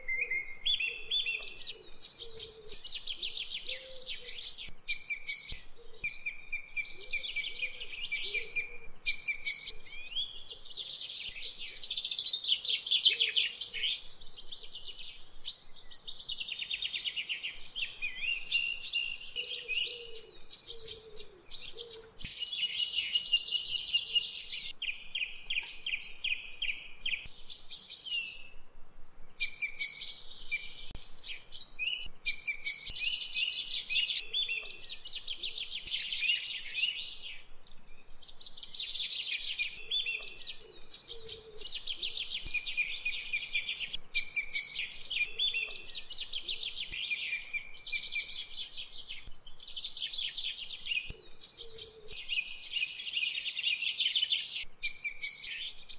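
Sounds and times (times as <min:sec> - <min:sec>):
songbirds trilling and chirping: 0:00.0 - 0:55.9.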